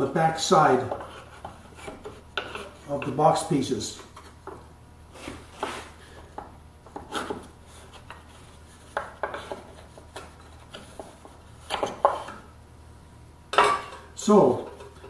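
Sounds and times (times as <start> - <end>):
wood rubbing on wood: 0.0 - 12.4.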